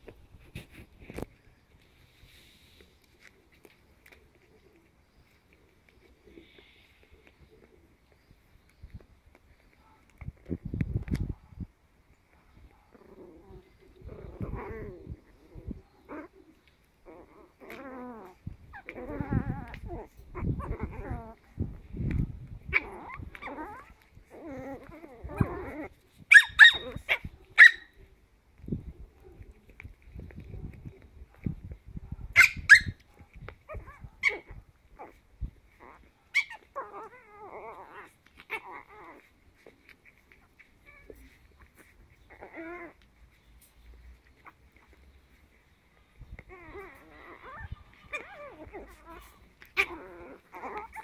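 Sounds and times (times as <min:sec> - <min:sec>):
puppies play-growling and whining: 0:00.0 - 0:51.0.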